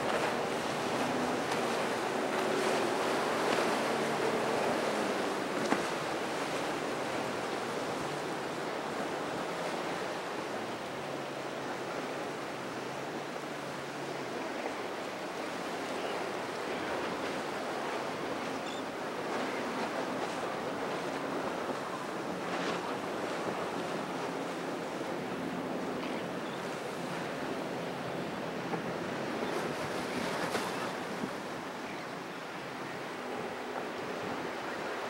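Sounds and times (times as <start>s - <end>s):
outboard motors humming: 0.0s - 35.0s
surf and churning water: 0.0s - 35.0s.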